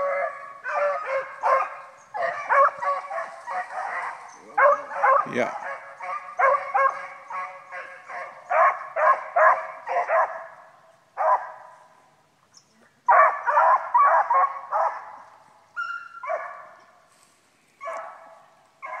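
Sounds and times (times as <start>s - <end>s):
dogs baying and barking: 0.0s - 11.8s, 13.1s - 17.0s, 17.8s - 19.0s.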